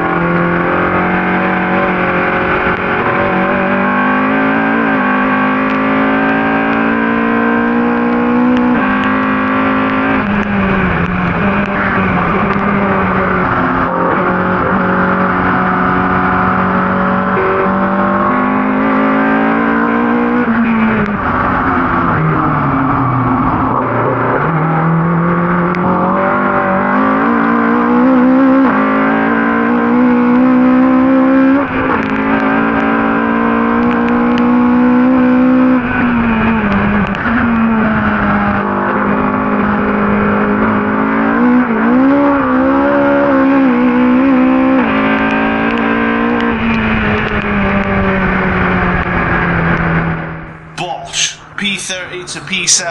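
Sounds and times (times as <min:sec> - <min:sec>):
race car engine revving hard: 0:00.0 - 0:52.9.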